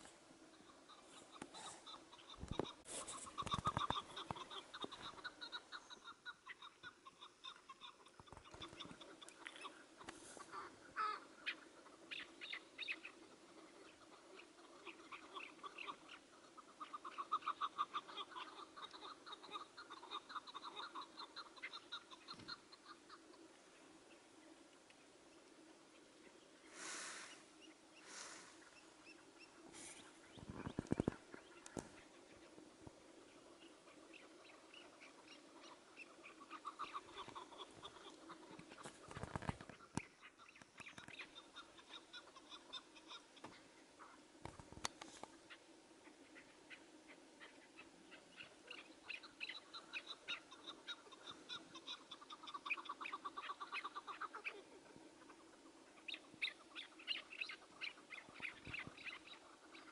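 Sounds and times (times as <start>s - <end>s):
partridge calling: 0.0s - 44.3s, 45.2s - 59.9s.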